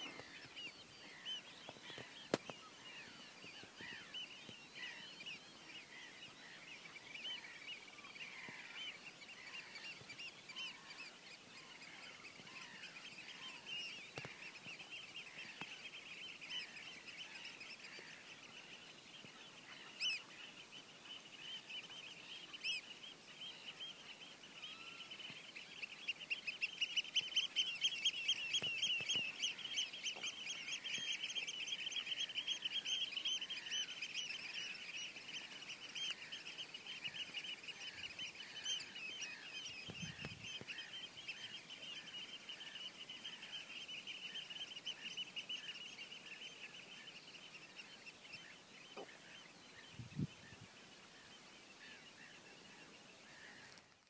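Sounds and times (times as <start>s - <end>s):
chorus of birds calling: 0.0s - 54.0s.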